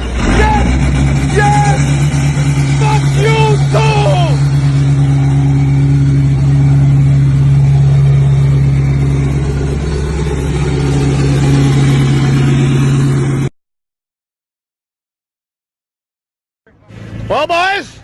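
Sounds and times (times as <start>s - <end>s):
diesel truck engine revving: 0.0s - 13.5s, 16.8s - 18.0s.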